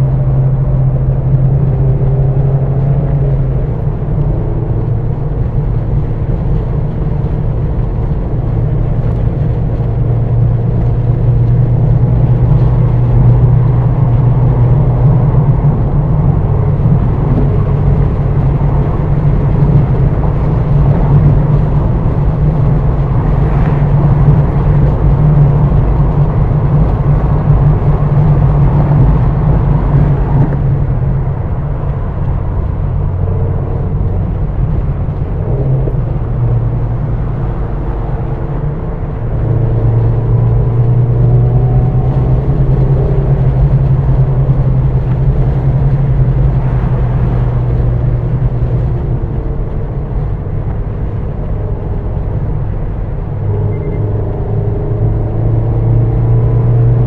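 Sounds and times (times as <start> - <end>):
car engine cruising: 0.0 - 57.0
tyre and wind noise: 0.0 - 57.0.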